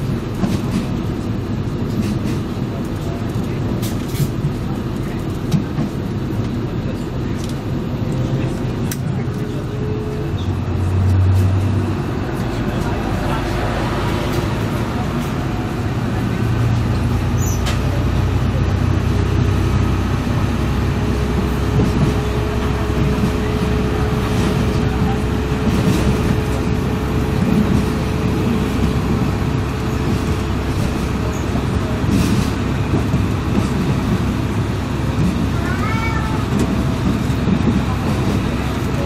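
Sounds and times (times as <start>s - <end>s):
train engine and running gear rumble: 0.0s - 39.0s.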